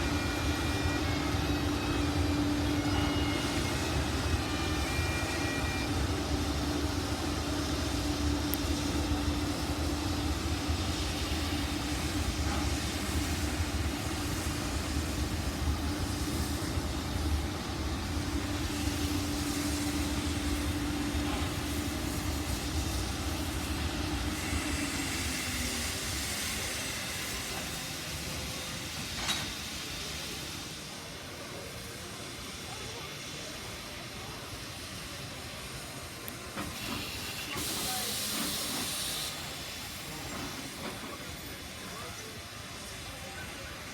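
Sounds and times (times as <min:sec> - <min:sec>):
steam locomotive rumble: 0:00.0 - 0:43.9.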